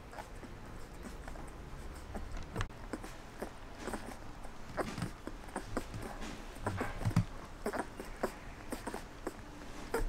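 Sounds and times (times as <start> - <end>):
puppies suckling: 0.0 - 10.0.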